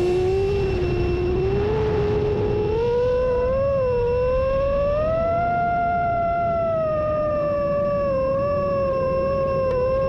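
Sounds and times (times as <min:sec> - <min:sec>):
low rumble: 0:00.0 - 0:08.1
high motor whine: 0:00.0 - 0:10.0.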